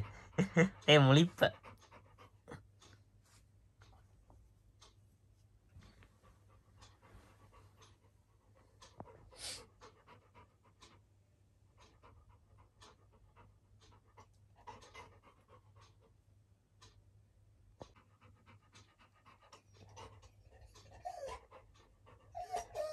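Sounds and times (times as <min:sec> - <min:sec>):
dog panting: 0:00.0 - 0:05.0, 0:05.7 - 0:17.0, 0:17.7 - 0:22.9.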